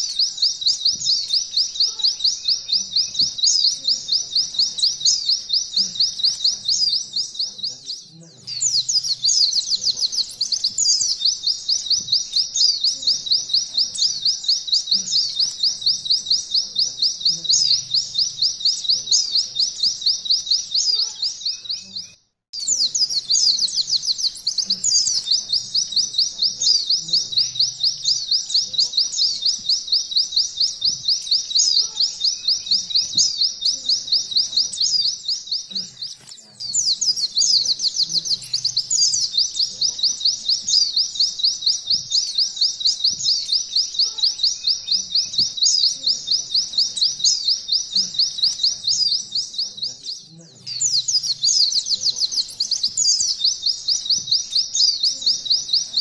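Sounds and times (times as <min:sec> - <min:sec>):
bird singing rapid trill: 0:00.0 - 0:56.0.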